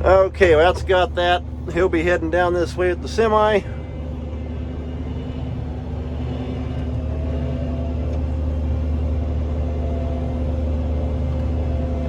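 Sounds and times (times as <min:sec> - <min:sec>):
combine harvester engine drone: 0:00.0 - 0:12.0
higher steady tone: 0:00.0 - 0:12.0.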